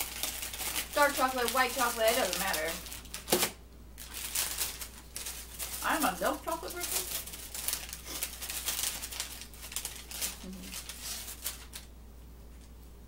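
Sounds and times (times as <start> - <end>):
paper bag crinkling: 0.0 - 11.9.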